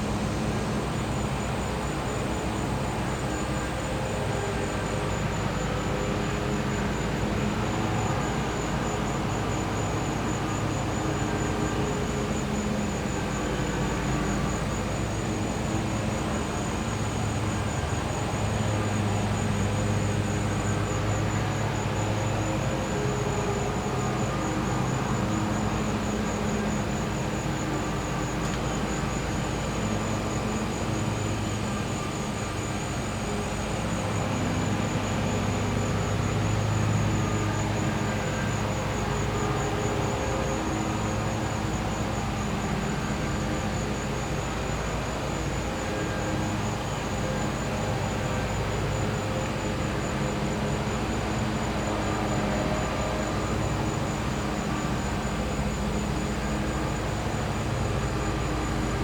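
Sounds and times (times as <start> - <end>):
insect trill: 0.0 - 59.0.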